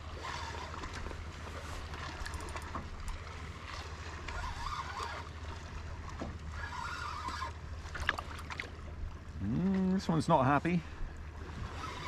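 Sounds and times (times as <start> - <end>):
water lapping against boat hull: 0.0 - 12.0
wind: 0.0 - 12.0.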